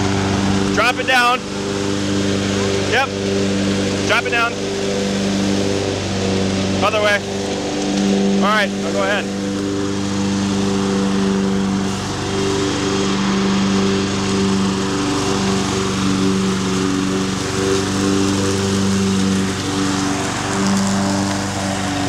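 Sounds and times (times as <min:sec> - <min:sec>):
lawn tractor engine running: 0:00.0 - 0:22.0
mower blades cutting grass: 0:00.0 - 0:22.0.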